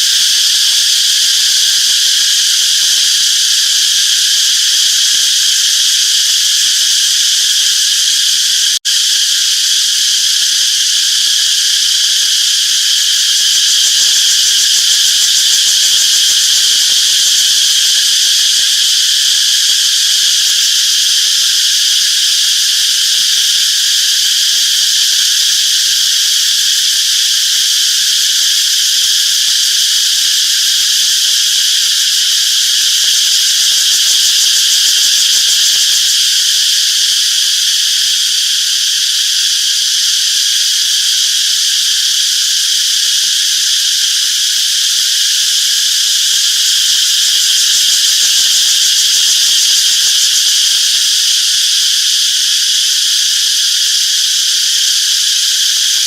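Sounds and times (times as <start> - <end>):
cicadas droning: 0.0 - 56.0.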